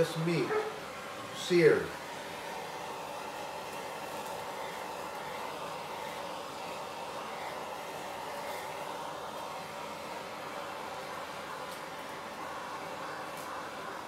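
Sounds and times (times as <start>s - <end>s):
gas torch flame hissing: 0.0s - 14.0s.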